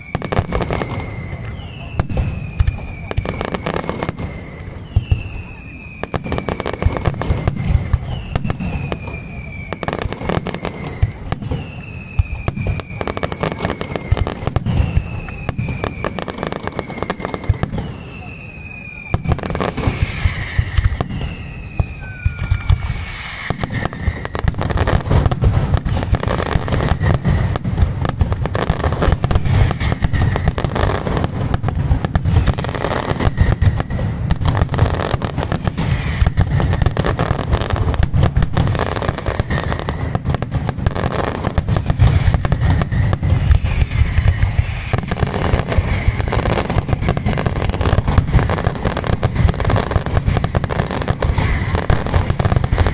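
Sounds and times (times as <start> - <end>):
fireworks bangs: 0.0 - 52.9
fireworks whistling: 0.0 - 52.9.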